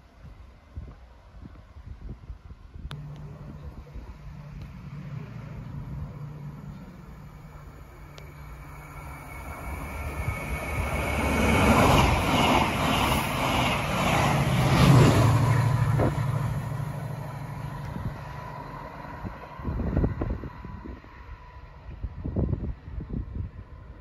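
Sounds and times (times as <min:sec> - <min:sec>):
passenger train passing: 0:00.6 - 0:24.0
wheels on rail: 0:02.8 - 0:24.0.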